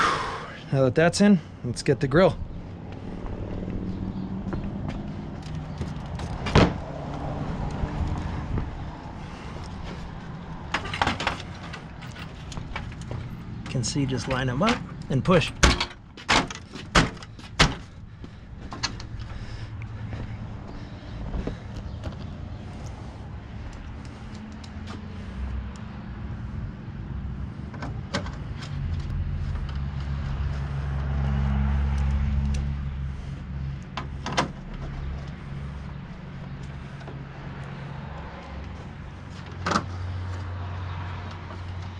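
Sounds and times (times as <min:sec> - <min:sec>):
vehicle engine hum: 0:00.0 - 0:41.9.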